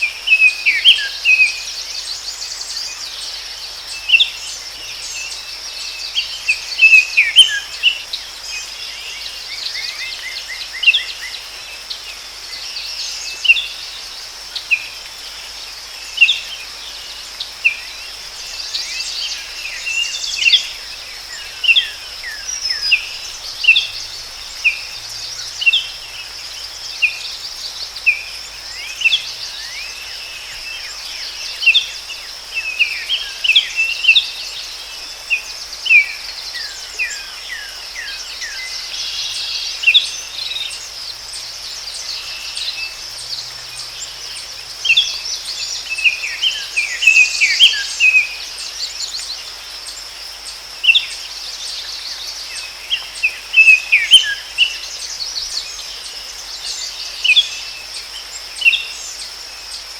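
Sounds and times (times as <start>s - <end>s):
high insect drone: 0.0s - 59.9s
songbirds chirping: 0.0s - 59.9s.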